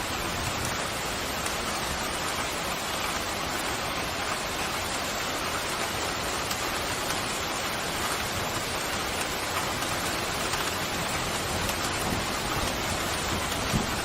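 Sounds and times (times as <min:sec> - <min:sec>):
pouring rain: 0:00.0 - 0:14.0.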